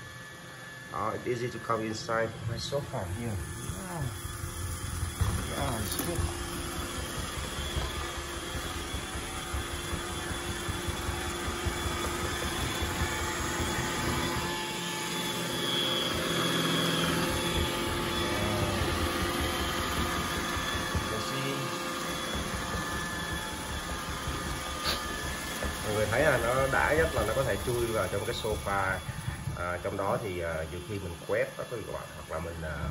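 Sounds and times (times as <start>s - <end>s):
robot vacuum whirring: 0.0s - 32.9s.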